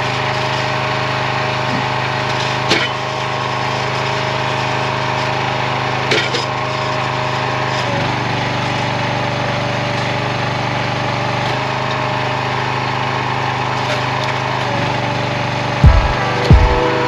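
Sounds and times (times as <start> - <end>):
small gas engine running: 0.0 - 17.0.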